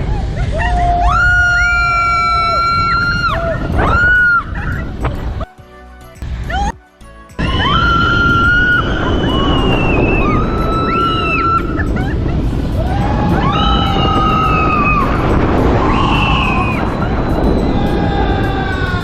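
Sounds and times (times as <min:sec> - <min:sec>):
riders screaming: 0:00.0 - 0:04.8, 0:07.4 - 0:19.0
roller coaster train rumble: 0:00.0 - 0:05.6, 0:07.4 - 0:19.0
wind: 0:00.0 - 0:19.0.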